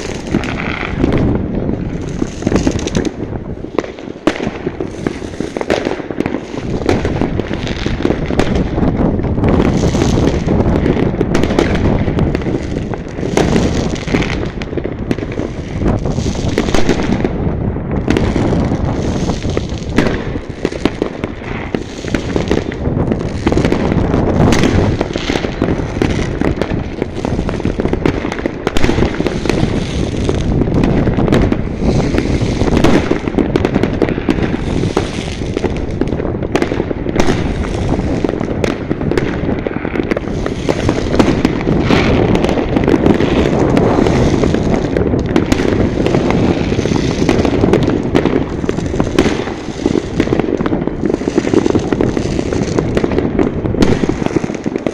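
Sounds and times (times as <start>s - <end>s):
fireworks banging and crackling: 0.0s - 54.9s.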